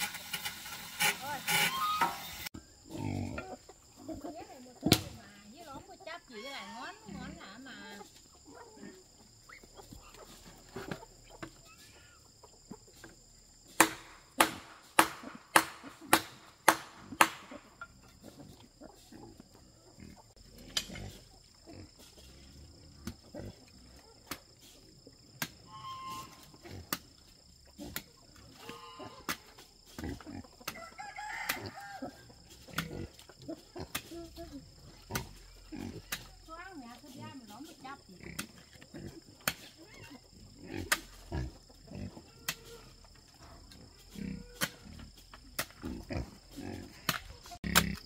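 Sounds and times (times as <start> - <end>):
chickens clucking: 0.0 - 13.4, 22.9 - 48.0.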